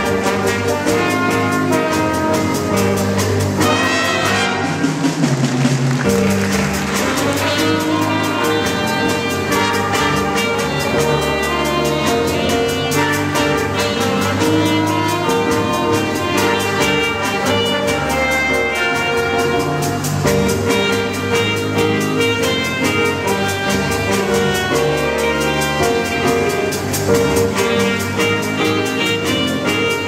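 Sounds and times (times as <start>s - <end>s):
alto saxophone solo: 0.0s - 5.0s, 6.1s - 30.0s
trombone solo: 0.0s - 5.0s, 6.7s - 30.0s
jazz band playing: 0.0s - 30.0s.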